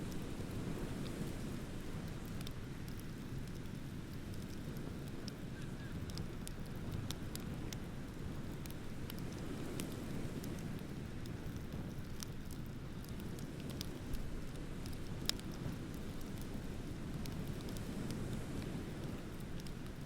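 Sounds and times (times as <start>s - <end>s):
bonfire crackling and popping: 0.0s - 20.0s.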